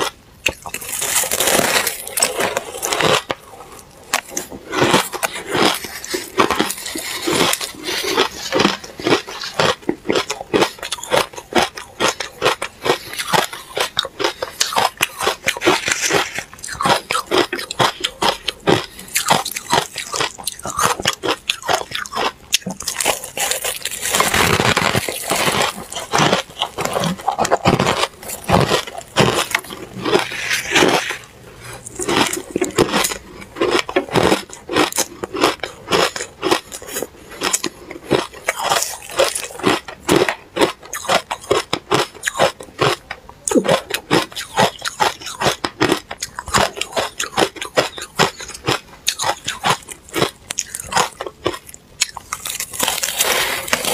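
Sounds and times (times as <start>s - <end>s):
ice crunching while chewed: 0.0s - 53.9s.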